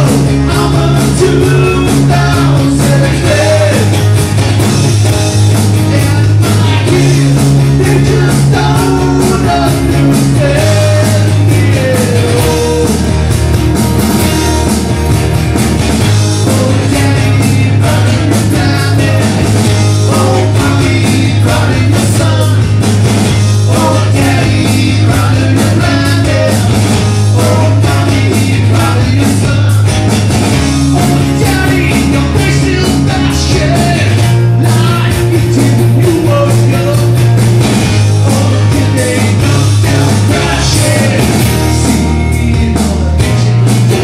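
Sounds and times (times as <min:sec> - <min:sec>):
acoustic guitars: 0:00.0 - 0:44.0
bass guitar long low notes: 0:00.0 - 0:44.0
drums: 0:00.0 - 0:44.0.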